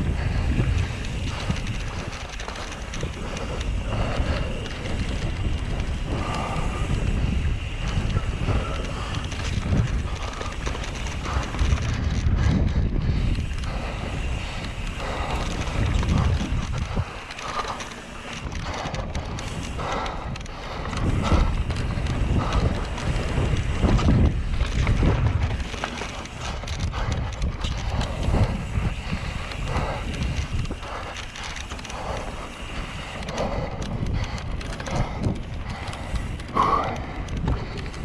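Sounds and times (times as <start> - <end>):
bike rattling and knocking: 0.0 - 38.0
bike tyres on dirt: 0.0 - 38.0
wind buffeting microphone: 0.0 - 38.0.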